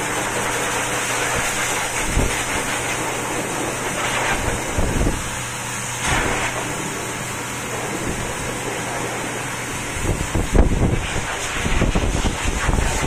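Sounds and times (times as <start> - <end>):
grooming dryer blowing air: 0.0 - 13.0.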